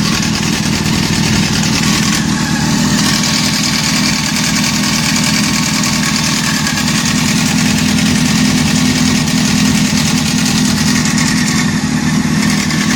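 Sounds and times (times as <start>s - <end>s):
mechanical engine noise: 0.0s - 12.9s
motorcycle engine idling: 0.0s - 12.9s.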